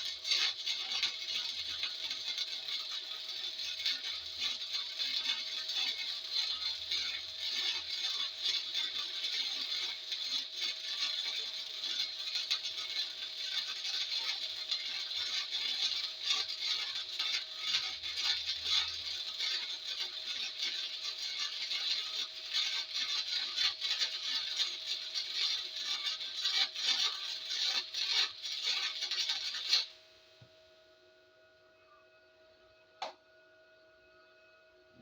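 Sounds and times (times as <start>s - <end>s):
welding arc crackling: 0.0s - 30.0s.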